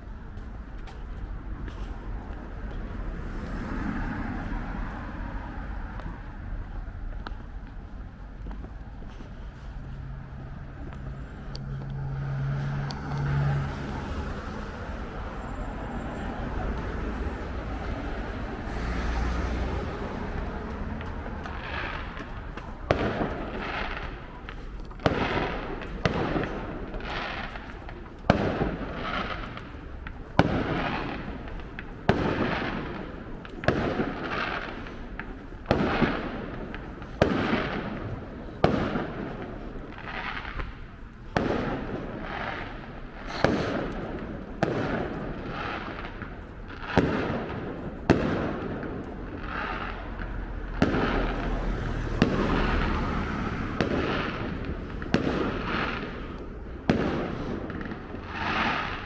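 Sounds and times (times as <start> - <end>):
fireworks banging: 0.3 - 59.0.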